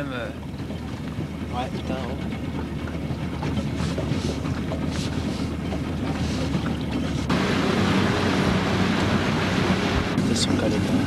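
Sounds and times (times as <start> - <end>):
boat motor running: 0.0 - 11.0
water noise: 0.0 - 11.0
wind: 0.0 - 11.0.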